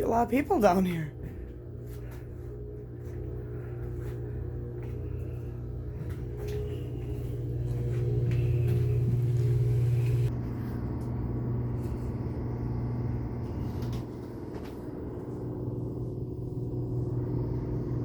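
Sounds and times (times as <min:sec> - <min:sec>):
boat engine drone: 0:00.0 - 0:18.0.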